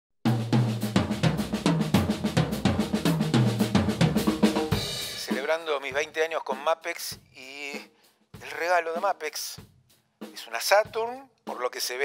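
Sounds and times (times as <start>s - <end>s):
drum kit groove: 0.2s - 12.0s.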